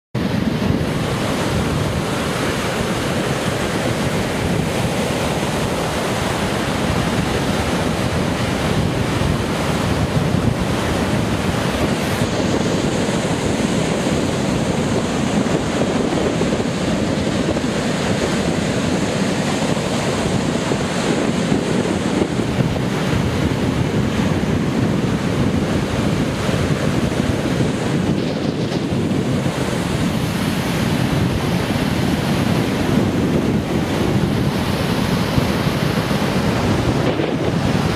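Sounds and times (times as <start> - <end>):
surf breaking on beach: 0.2 - 37.9
wind noise on microphone: 0.2 - 37.9.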